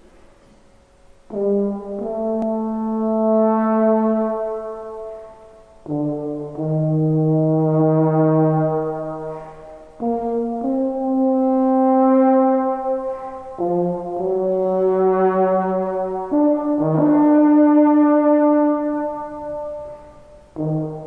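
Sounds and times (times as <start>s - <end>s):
brass instrument playing hymn: 1.2s - 21.0s.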